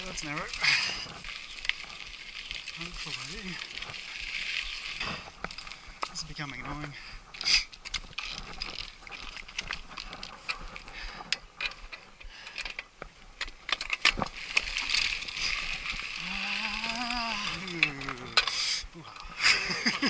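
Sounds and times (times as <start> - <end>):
mountain bike rattling and clicking: 0.0 - 20.0.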